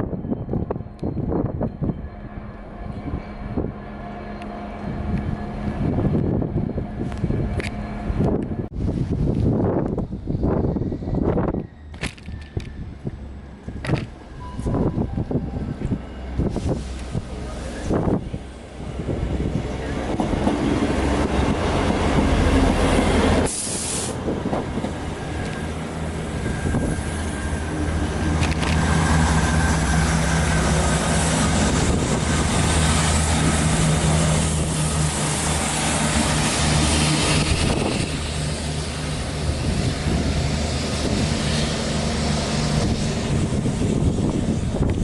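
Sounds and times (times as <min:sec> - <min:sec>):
diesel train engine drone: 0:00.0 - 0:45.0
rail and wheel noise: 0:00.0 - 0:45.0.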